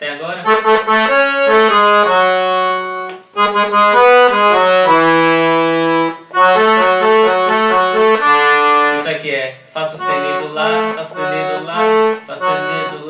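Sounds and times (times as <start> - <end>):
accordion playing slow melody: 0.3 - 9.2, 9.9 - 13.0.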